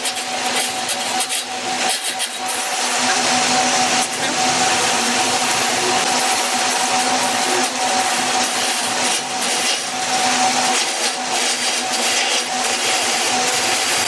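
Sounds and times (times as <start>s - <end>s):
hiss of spinning wood worked: 0.0s - 14.0s
lathe motor hum: 0.0s - 14.0s.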